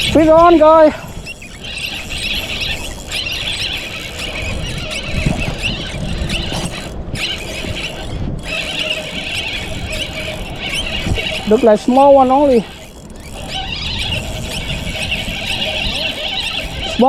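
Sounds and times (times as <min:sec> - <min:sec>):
fishing reel drag squealing: 0:00.0 - 0:17.0.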